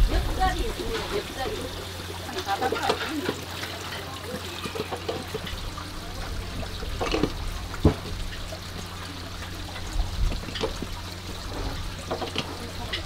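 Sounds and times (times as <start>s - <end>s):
water trickling into tubs: 0.0s - 13.0s.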